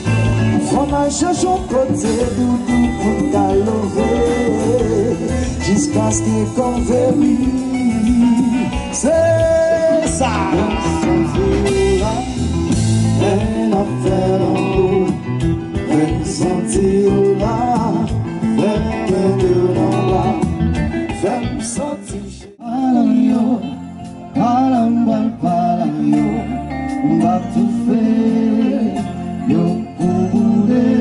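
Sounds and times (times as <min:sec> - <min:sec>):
live band playing: 0:00.0 - 0:31.0
man singing: 0:00.0 - 0:31.0.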